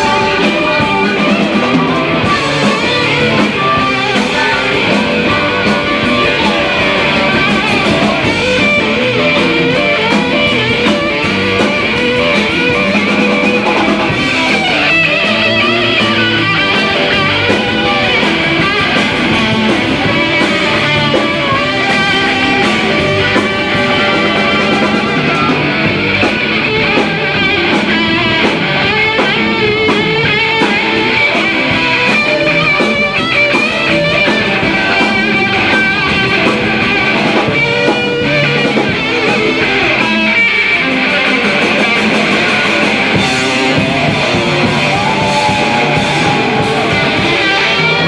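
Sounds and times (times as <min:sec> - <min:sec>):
blues-rock band playing: 0:00.0 - 0:48.0
lead guitar: 0:00.0 - 0:48.0.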